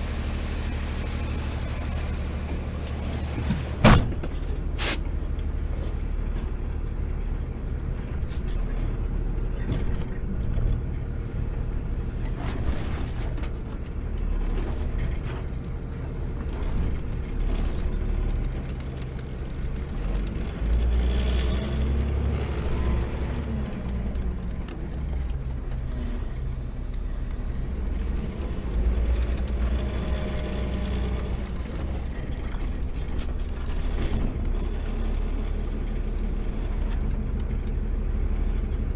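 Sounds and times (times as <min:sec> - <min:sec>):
garbage truck engine droning: 0:00.0 - 0:38.9.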